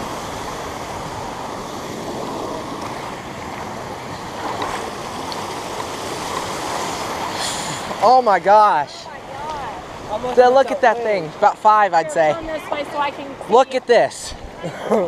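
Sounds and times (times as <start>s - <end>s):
waterfall roar: 0.0s - 13.2s.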